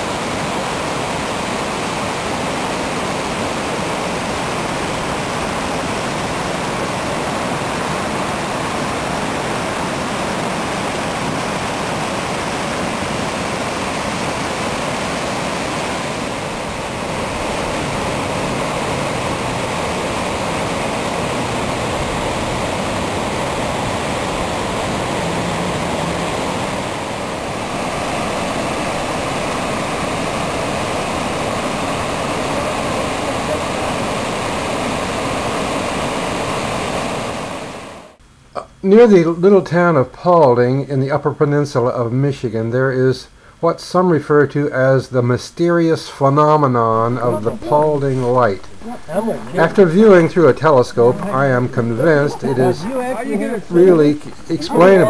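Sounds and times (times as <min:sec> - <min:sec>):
waterfall rushing water: 0:00.0 - 0:38.2, 0:46.8 - 0:55.0.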